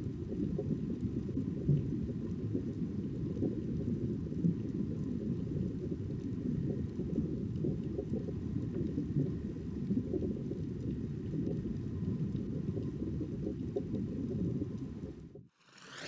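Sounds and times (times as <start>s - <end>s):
low underwater rumble: 0.0s - 15.5s.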